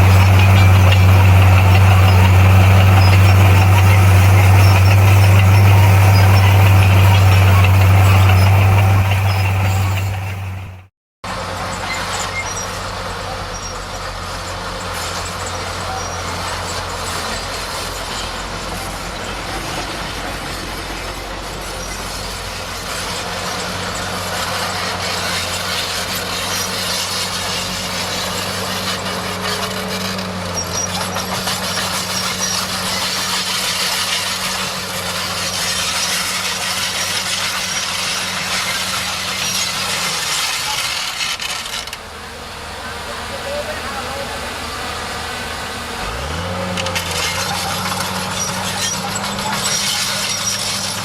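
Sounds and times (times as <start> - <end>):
bulldozer diesel engine: 0.0 - 51.0
tracks clattering and grinding: 0.0 - 51.0.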